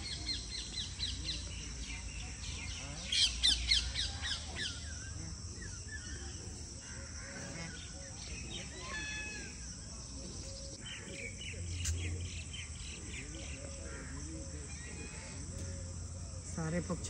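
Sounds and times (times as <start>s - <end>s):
bird chirping: 0.0s - 17.0s
insects droning: 0.0s - 17.0s.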